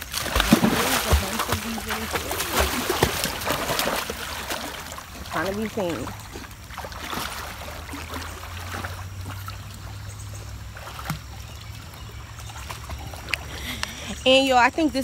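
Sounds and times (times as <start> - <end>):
dog swimming splashing water: 0.0 - 14.2.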